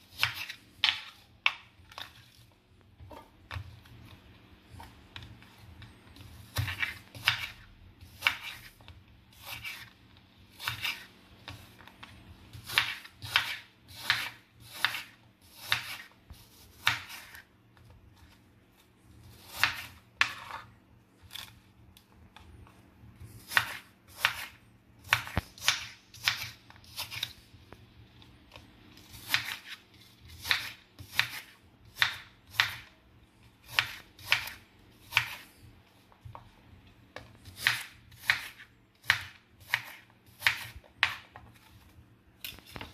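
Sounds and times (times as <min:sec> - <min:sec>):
knife cutting crisp apple: 0:00.0 - 0:27.5, 0:28.5 - 0:32.9, 0:33.6 - 0:36.5, 0:37.2 - 0:42.9.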